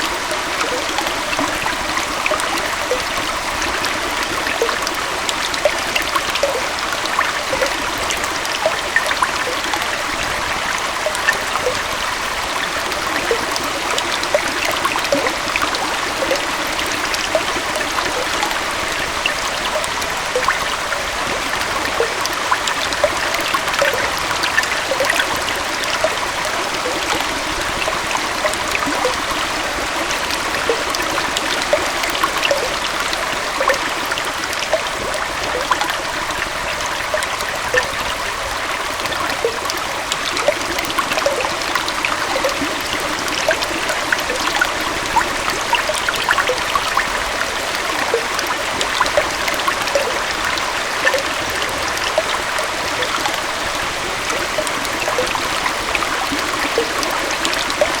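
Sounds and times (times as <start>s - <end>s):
stream and waterfall flowing: 0.0s - 58.0s
water trickling splashes: 0.0s - 58.0s.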